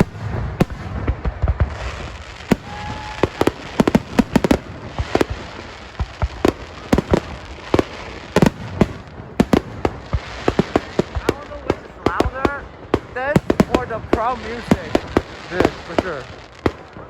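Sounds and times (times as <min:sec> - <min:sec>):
fireworks bangs: 0:00.0 - 0:17.0
fireworks crackle: 0:00.0 - 0:17.0.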